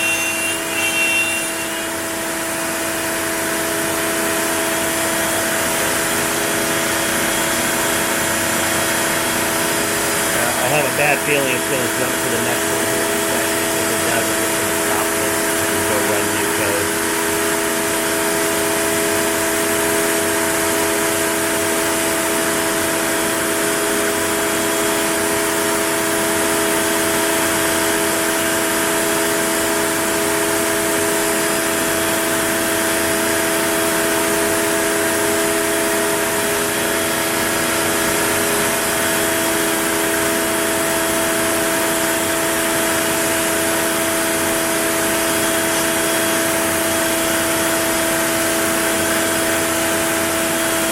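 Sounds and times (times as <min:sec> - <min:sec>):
cnc router whining: 0:00.0 - 0:50.9.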